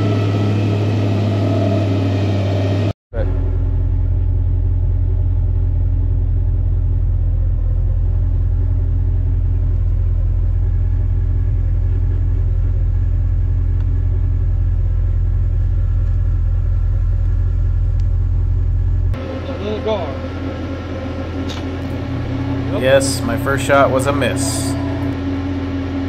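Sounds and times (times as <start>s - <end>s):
airboat engine and propeller humming: 0.0s - 26.0s.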